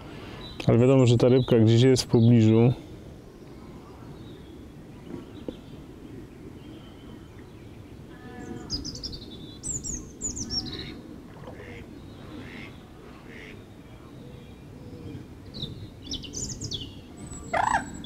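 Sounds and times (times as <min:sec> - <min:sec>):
birds chirping: 0:00.0 - 0:18.0
low outdoor background noise: 0:00.0 - 0:18.0.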